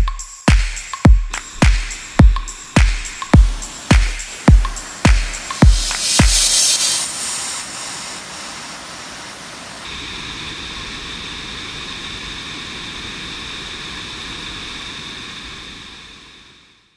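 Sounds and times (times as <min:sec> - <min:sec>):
waterfall rushing: 0:01.4 - 0:15.3.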